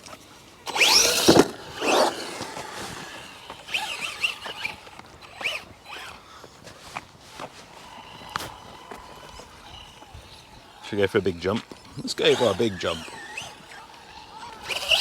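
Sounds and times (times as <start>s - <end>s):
rc truck motor whining: 0.0s - 6.7s, 7.4s - 15.0s.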